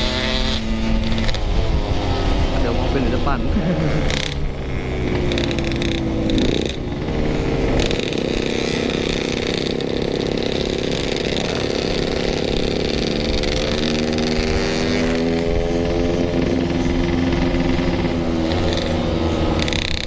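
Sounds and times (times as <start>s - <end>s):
two-stroke engine running: 0.0s - 20.0s.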